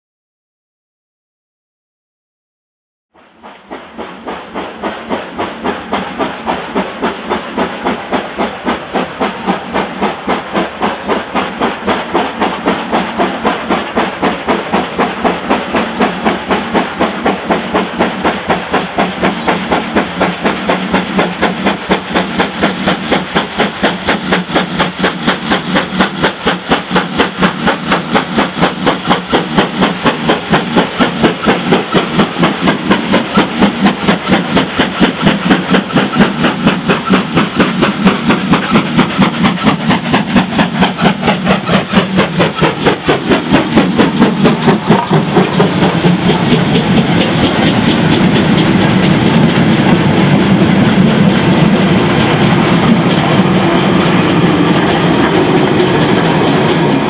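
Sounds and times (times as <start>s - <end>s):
steam locomotive exhaust beats: 3.1s - 57.0s
steam hissing: 3.2s - 57.0s.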